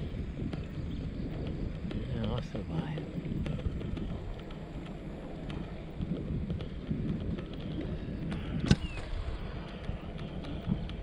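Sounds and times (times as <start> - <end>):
bike clicks: 0.0 - 11.0
wind buffeting microphone: 0.0 - 11.0.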